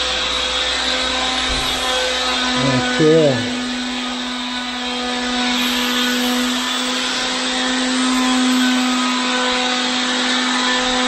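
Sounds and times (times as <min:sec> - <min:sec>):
power tool motor whining: 0:00.0 - 0:11.0.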